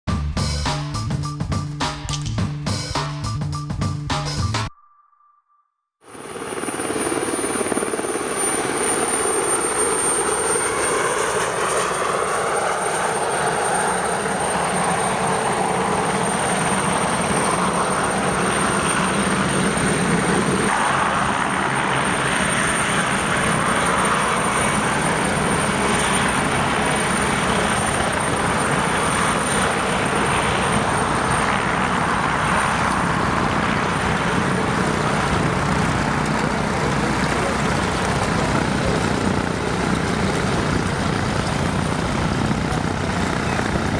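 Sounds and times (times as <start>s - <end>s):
helicopter rotor rush: 6.0s - 43.9s
helicopter turbine whine: 6.0s - 43.9s.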